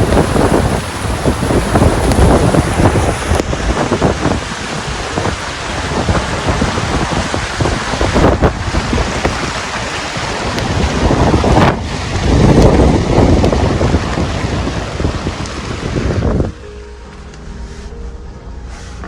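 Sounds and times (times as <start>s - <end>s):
wind buffeting microphone: 0.0s - 16.7s
heavy rain: 0.0s - 17.8s.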